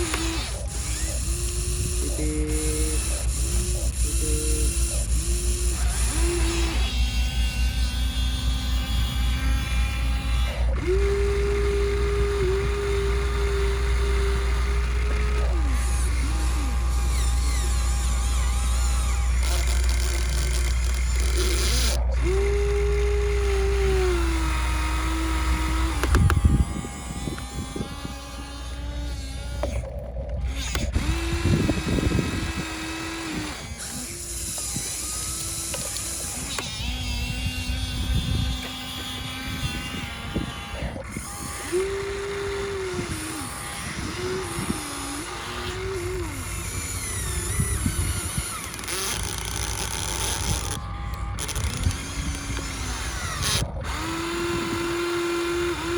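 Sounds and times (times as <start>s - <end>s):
rattling rumble: 0.0s - 55.1s
small electric motor whining: 0.0s - 55.9s.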